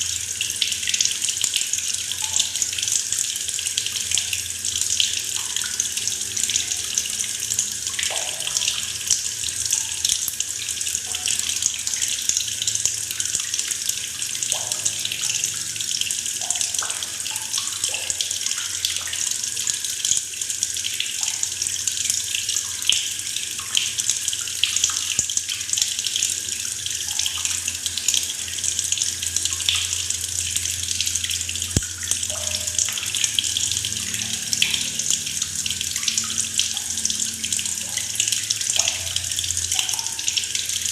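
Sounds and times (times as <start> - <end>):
tap water pouring into bucket: 0.0 - 40.9.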